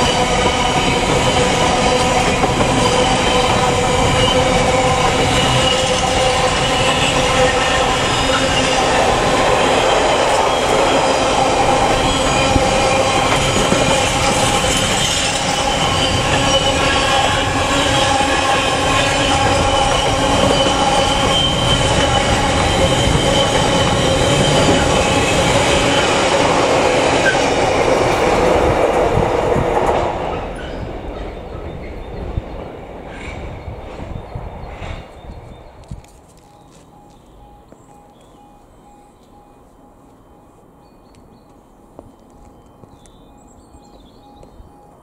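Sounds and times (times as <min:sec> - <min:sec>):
train wheels squealing: 0:00.0 - 0:27.8, 0:30.2 - 0:41.1.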